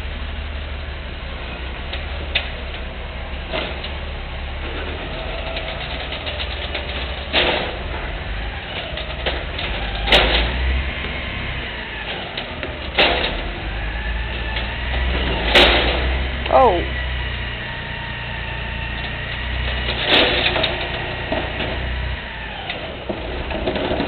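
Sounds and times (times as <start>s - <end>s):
diesel truck engine running: 0.0s - 24.0s
hydraulic arm lifting bin: 0.1s - 24.0s.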